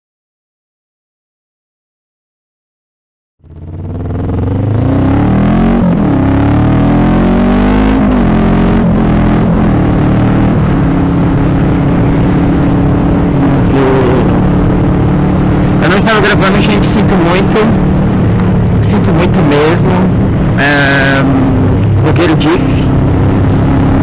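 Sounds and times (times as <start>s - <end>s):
motorcycle engine accelerating: 3.4s - 24.0s.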